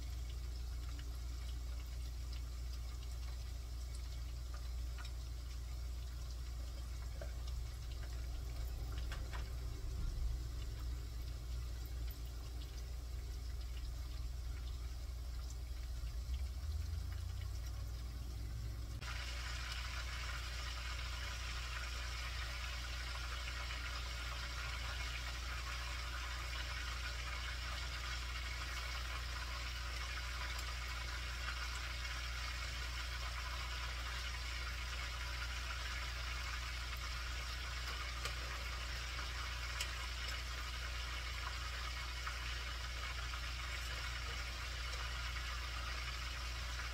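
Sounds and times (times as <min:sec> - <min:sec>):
chicken deep-frying in oil: 0:00.0 - 0:46.9.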